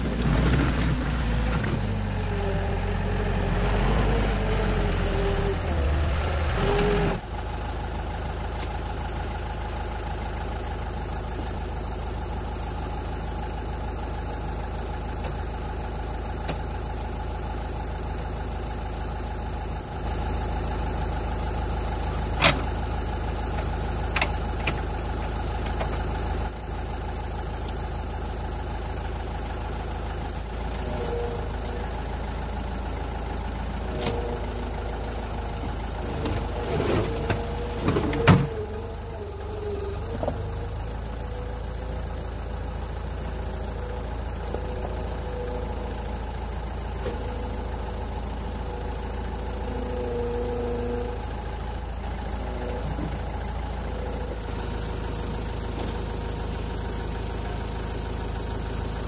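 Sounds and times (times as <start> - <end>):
skid steer engine idling: 0.0 - 59.0.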